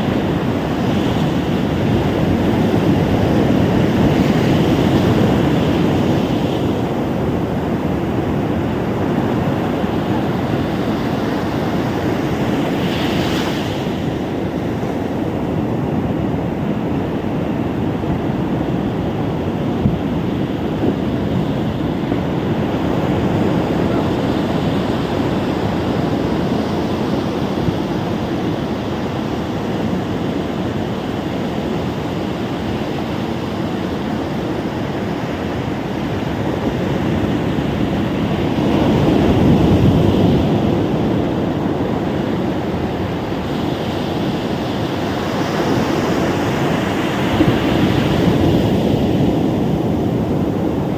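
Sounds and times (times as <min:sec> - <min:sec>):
ocean surf on beach: 0:00.0 - 0:50.9.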